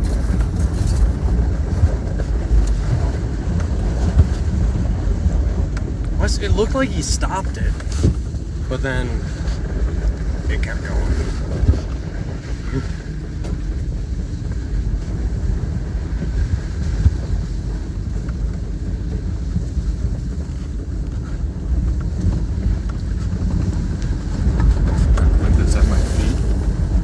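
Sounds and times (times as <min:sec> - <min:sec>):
truck engine and tyres rumbling: 0:00.0 - 0:27.0.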